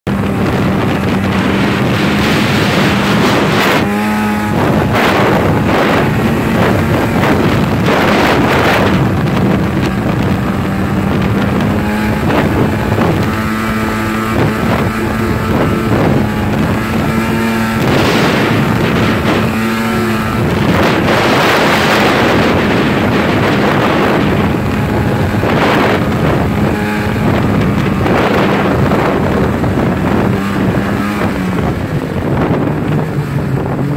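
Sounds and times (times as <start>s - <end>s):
snowmobile engine running: 0.0s - 33.9s
wind noise on microphone: 0.0s - 33.9s.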